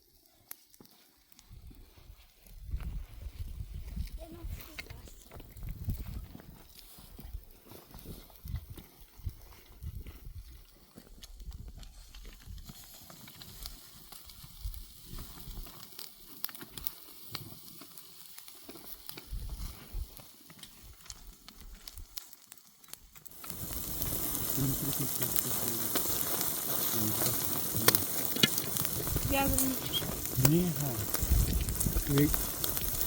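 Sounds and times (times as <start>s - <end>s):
meat sizzling and crackling: 0.0s - 33.0s.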